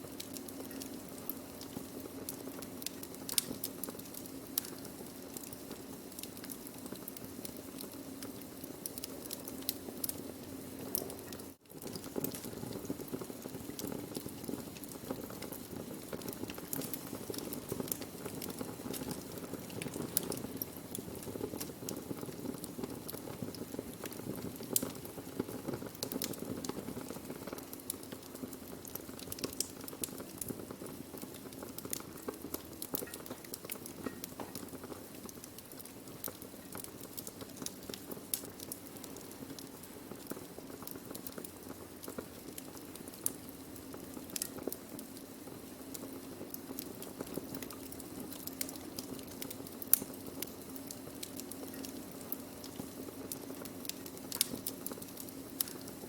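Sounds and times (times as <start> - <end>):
fire crackles and pops: 0.0 - 56.0
low rush of flames: 0.0 - 56.0.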